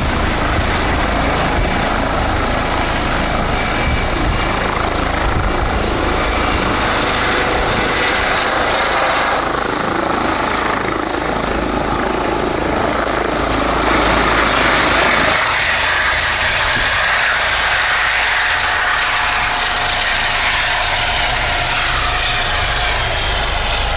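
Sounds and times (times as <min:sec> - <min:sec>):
helicopter rotor and turbine: 0:00.0 - 0:23.9.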